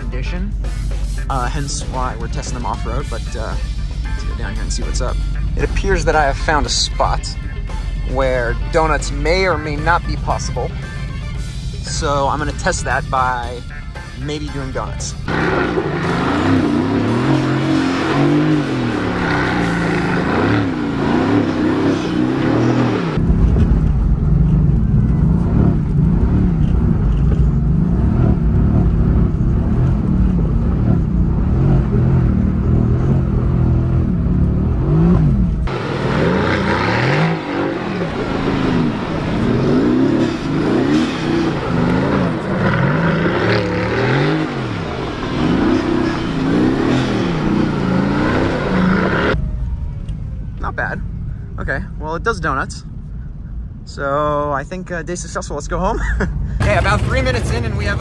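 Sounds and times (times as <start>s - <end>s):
car engine revving: 0.0s - 13.6s, 14.4s - 54.7s, 56.5s - 58.0s
heavy low rumble: 0.0s - 58.0s.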